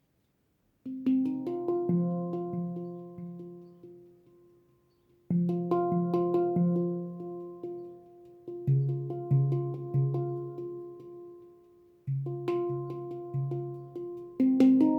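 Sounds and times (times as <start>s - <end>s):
handpan notes ringing: 0.9s - 4.6s, 5.3s - 14.9s.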